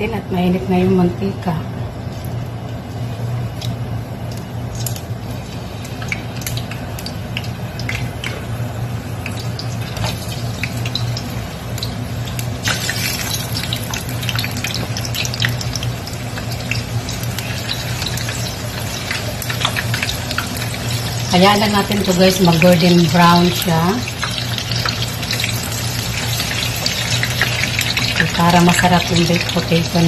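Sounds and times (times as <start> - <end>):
potato slices sizzling in oil: 4.3 - 30.0.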